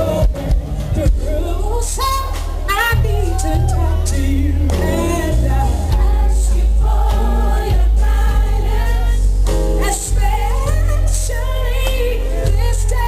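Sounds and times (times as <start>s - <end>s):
band playing: 0.0s - 13.0s
choir singing gospel: 0.0s - 13.0s.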